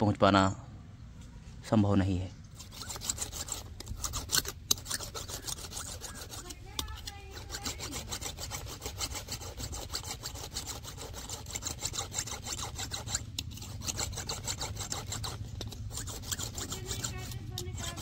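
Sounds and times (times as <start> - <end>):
blade scraping on sharpening stone: 2.5 - 18.0.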